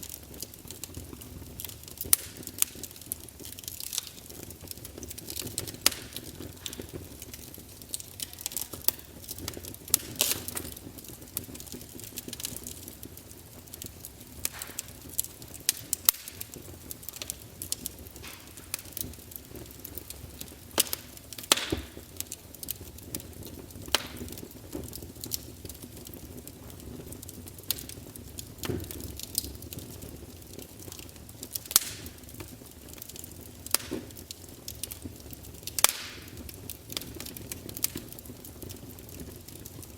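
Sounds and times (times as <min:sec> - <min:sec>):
fireplace logs crackling: 0:00.0 - 0:39.9.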